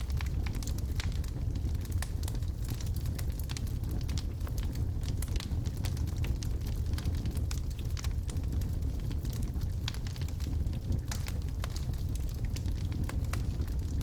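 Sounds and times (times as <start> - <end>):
fire rumbling: 0.0 - 14.0
logs crackling and popping: 0.0 - 14.0.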